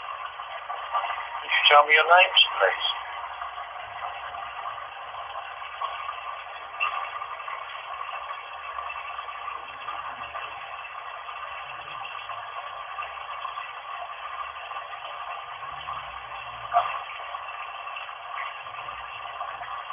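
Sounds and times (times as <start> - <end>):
tinny running water playback: 0.0 - 19.9.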